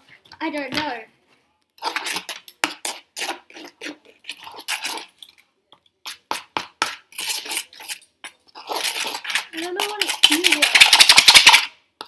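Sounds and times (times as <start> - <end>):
spoon and bowls clicking and scraping: 1.8 - 11.8.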